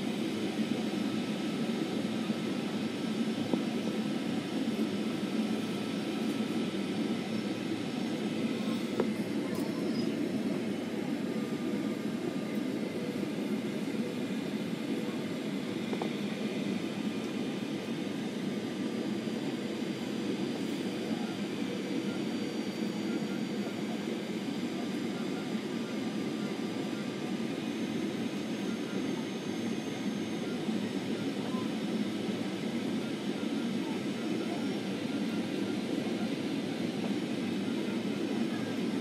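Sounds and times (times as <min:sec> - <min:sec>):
airliner cabin engine hum: 0:00.0 - 0:39.0
faint high whine: 0:00.0 - 0:39.0.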